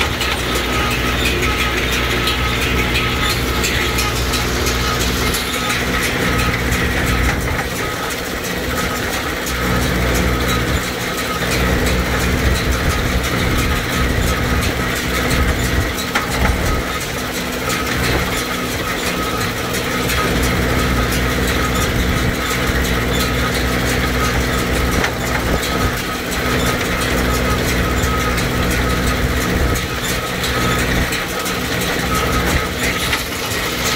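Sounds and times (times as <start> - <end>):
baler clicking: 0.0 - 33.9
tractor diesel engine under load: 0.0 - 33.9.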